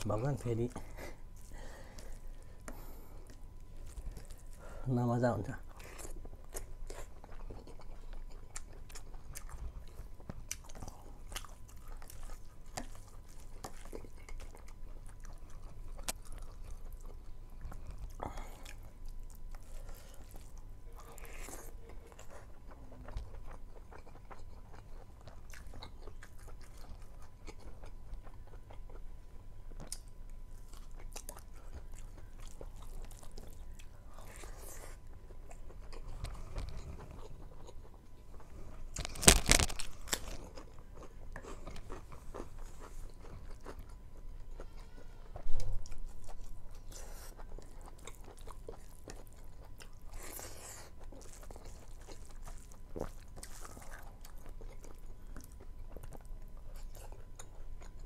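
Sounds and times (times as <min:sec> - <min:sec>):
person chewing food: 0:00.0 - 0:04.8, 0:05.4 - 0:58.0.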